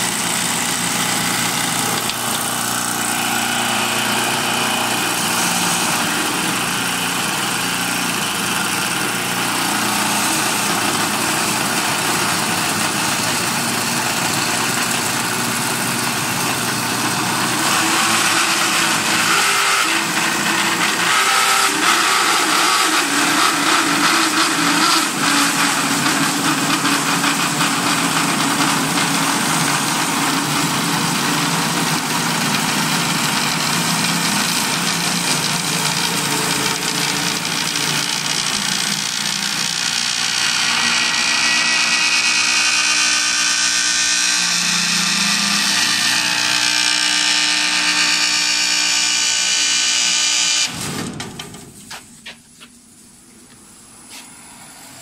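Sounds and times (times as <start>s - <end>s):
lathe cutting wood whine: 0.0s - 50.8s.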